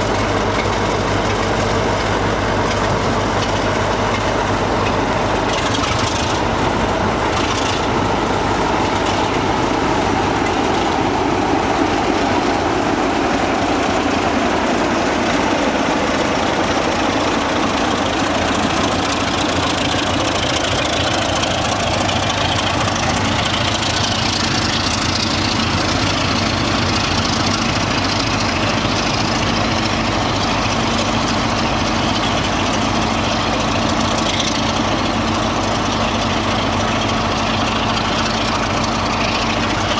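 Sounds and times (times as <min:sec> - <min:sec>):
train engine drone: 0:00.0 - 0:39.9.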